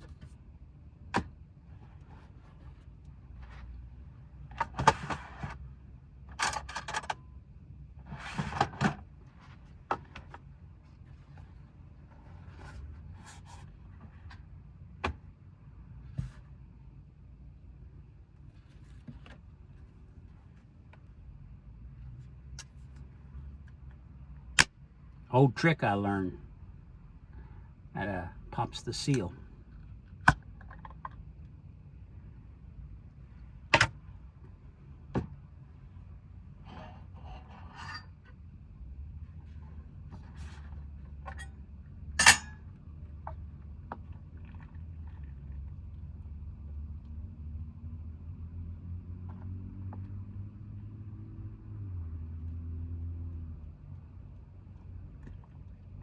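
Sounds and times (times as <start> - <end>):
low steady hum: 0.0 - 49.4.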